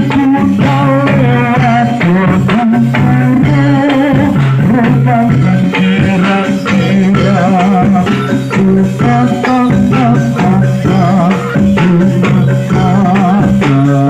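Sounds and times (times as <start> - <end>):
drum and percussion strikes: 0.0 - 14.0
low held tones: 0.0 - 14.0
metallophone notes: 0.0 - 14.0
ornamented melody line: 0.0 - 14.0.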